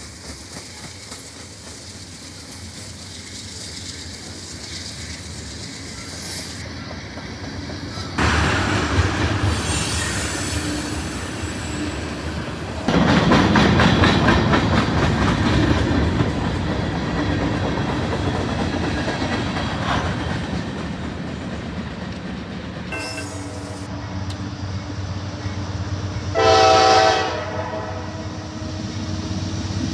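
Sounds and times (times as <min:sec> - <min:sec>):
freight train wheels clattering: 0:00.0 - 0:24.5.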